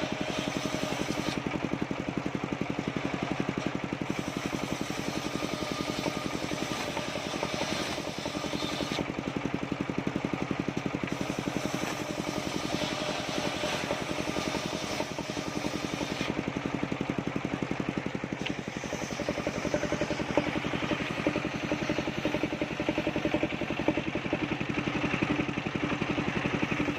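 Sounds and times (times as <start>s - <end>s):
sawmill engine pulsing: 0.0s - 26.9s.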